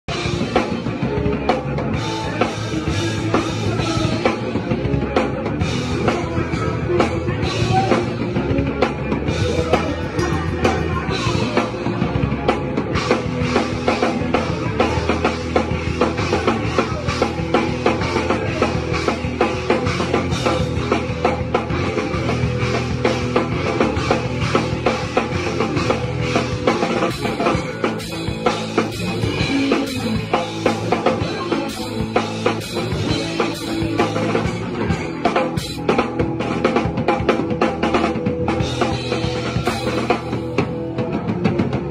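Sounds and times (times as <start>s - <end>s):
electric guitar: 0.0s - 41.9s
drum and cymbal hits: 0.1s - 41.9s.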